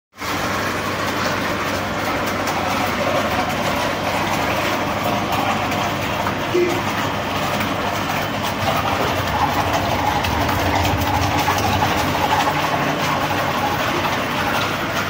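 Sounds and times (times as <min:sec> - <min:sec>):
meat mincer running: 0:00.2 - 0:15.0.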